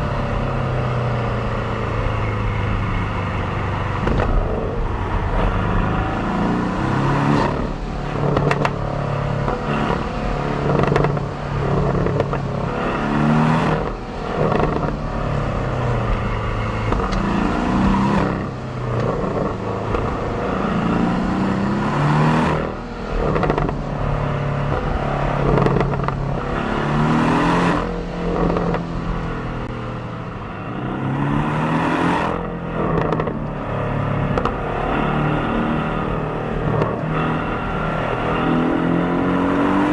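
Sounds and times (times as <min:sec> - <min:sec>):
car exhaust revving: 0:00.0 - 0:39.9.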